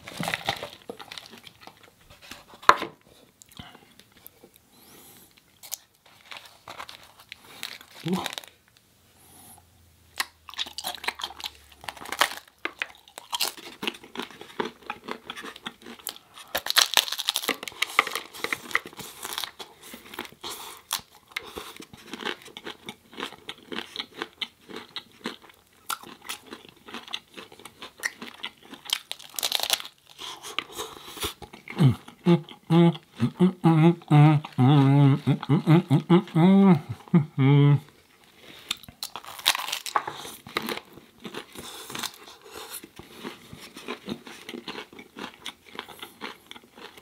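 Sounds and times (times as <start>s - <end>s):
person chewing and crunching food: 0.0s - 8.7s, 10.1s - 47.0s.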